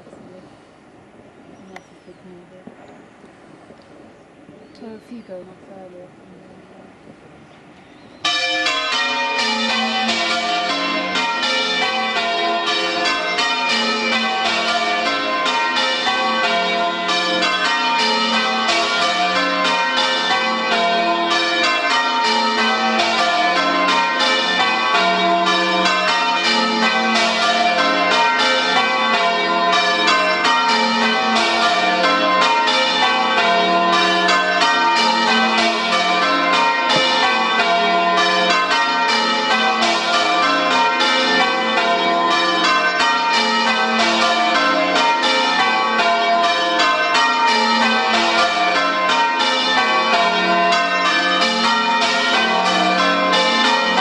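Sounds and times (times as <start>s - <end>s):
church bells ringing: 0.0s - 0.9s, 8.2s - 54.0s.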